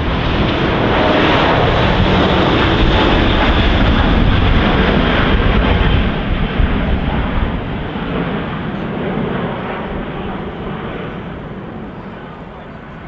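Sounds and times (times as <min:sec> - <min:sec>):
jet engines rumbling at take-off: 0:00.0 - 0:13.0.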